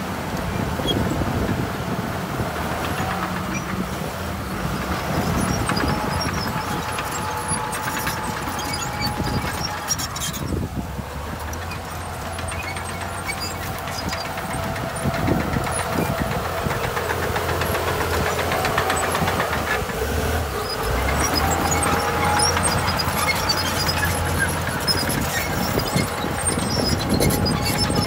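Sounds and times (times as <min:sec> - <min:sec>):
diesel engine running: 0:00.0 - 0:28.0
rapid light clatter: 0:04.7 - 0:28.0.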